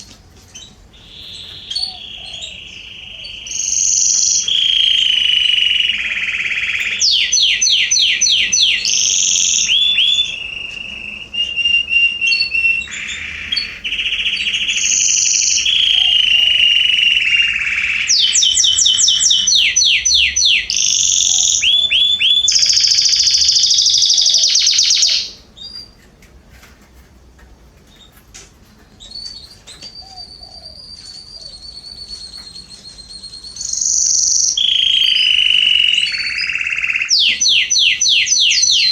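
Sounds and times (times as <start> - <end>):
canary singing trills: 0.0 - 26.1, 27.8 - 38.9.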